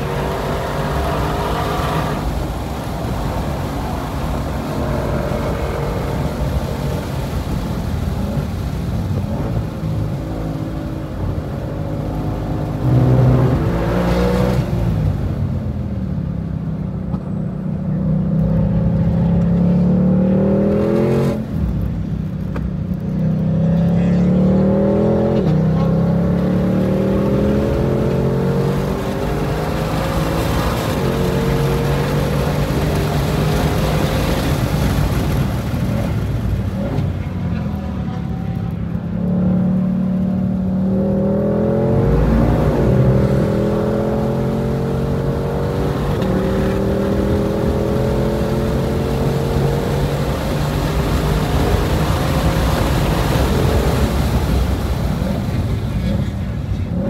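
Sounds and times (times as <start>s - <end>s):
car engine at full throttle: 0.0s - 57.0s
wind and tyre noise: 0.0s - 57.0s.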